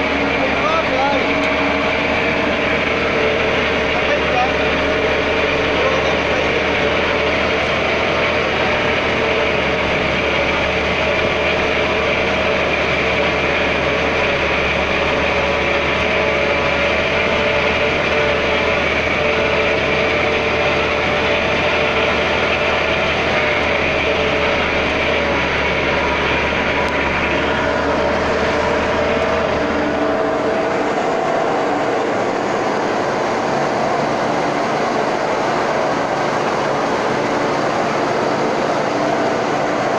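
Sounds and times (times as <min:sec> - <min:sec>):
truck engine and road noise: 0:00.0 - 0:39.9
wavering mid-pitched whine: 0:00.0 - 0:39.9.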